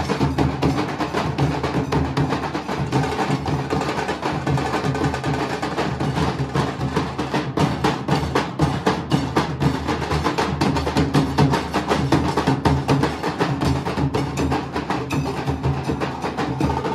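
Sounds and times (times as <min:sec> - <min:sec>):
large barrel drums beaten: 0:00.0 - 0:16.9.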